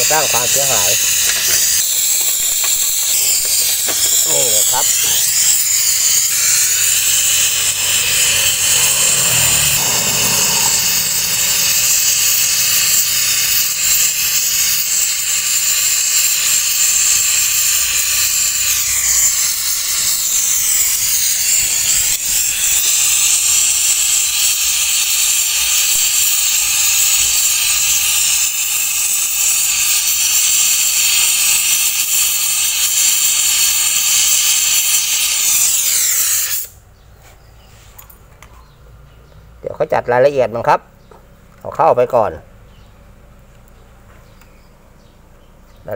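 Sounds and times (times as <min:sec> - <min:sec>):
compressed gas hissing: 0:00.0 - 0:38.2.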